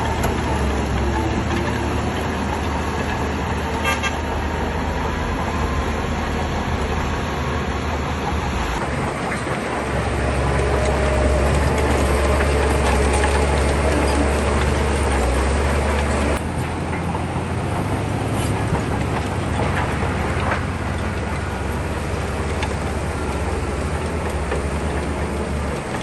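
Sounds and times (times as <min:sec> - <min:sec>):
bulldozer diesel engine: 0:00.0 - 0:26.0.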